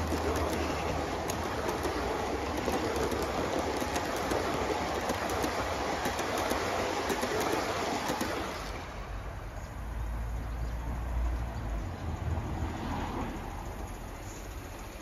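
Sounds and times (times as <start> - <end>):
model train rumbling over track: 0.0 - 15.0.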